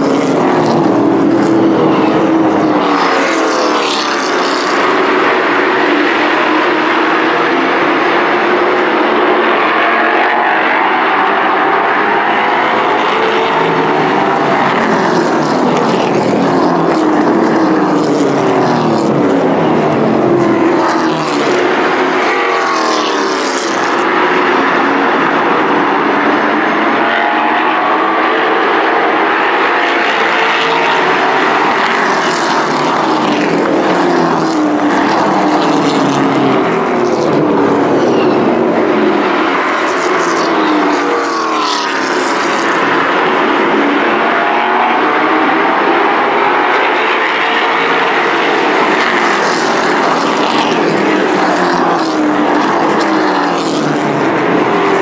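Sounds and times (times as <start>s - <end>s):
race truck engines revving: 0.0s - 55.0s.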